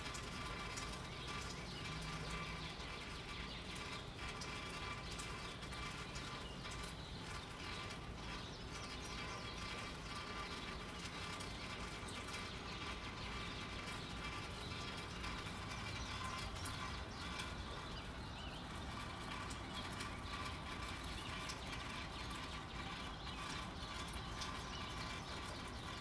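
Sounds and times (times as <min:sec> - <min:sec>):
gentle rain hiss: 0:00.0 - 0:26.0.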